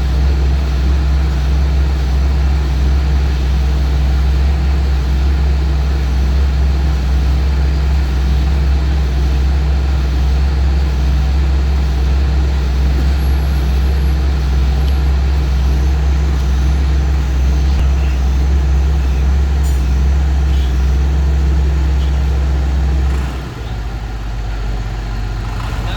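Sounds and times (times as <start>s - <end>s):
heavy engine droning: 0.0s - 25.9s.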